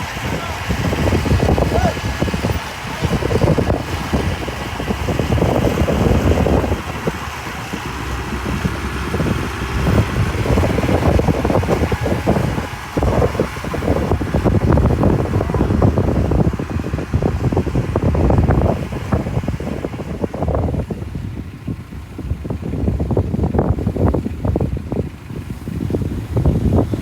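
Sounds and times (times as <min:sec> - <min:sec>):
bulldozer diesel engine rumble: 0:00.0 - 0:27.0.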